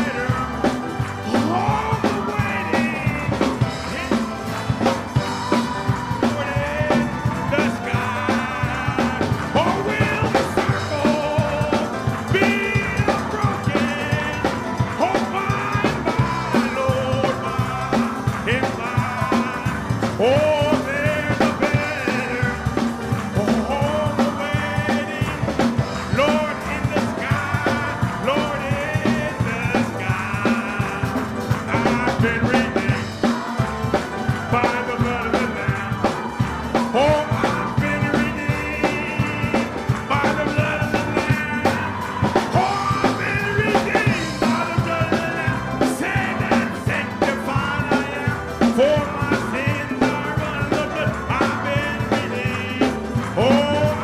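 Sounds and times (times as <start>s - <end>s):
drums and bass: 0.0s - 54.0s
live band playing upbeat hymn: 0.0s - 54.0s
melodic lead line: 0.0s - 54.0s.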